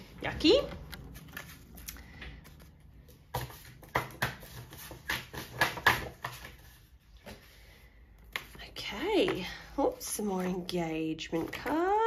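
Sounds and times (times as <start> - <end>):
paper cards rustling and tapping: 0.7 - 7.5, 8.2 - 9.6, 10.2 - 12.0.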